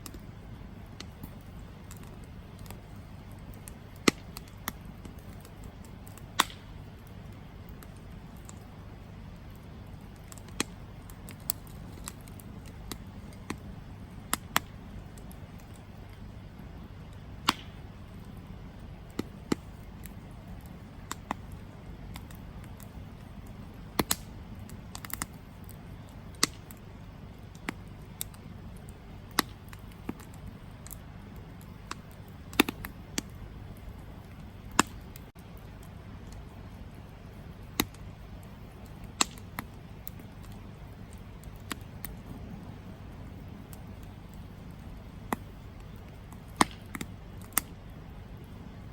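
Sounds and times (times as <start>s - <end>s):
low rumble of flames: 0.0s - 48.9s
wood crackling and popping: 0.0s - 48.9s.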